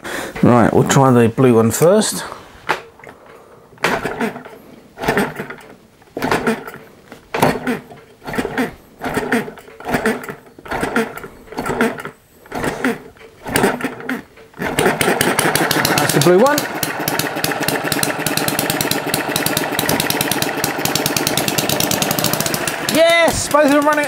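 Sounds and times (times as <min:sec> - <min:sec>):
engine turning over by hand: 0:02.8 - 0:24.0.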